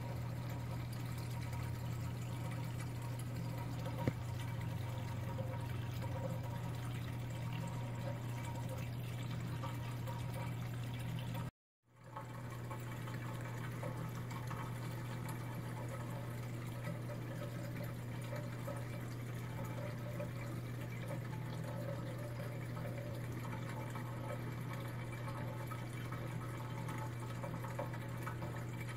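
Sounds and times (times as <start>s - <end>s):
aquarium pump hum: 0.0s - 28.9s
water trickling and bubbling: 0.0s - 28.9s.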